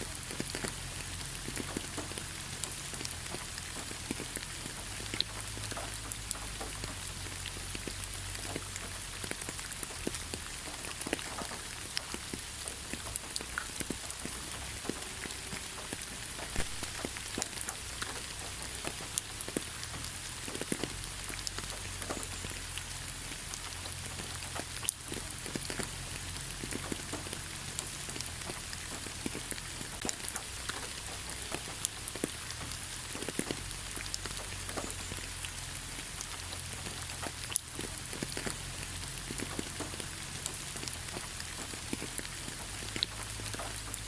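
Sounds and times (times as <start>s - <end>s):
rain falling in a forest: 0.0s - 44.0s.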